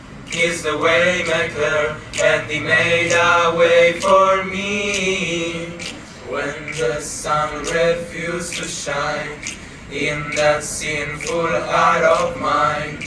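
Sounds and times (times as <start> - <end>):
choir singing: 0.3 - 13.0.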